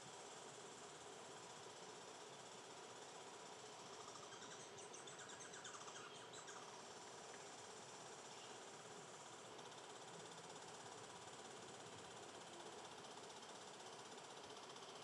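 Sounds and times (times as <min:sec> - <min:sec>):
steady insect hum: 0:00.0 - 0:15.0.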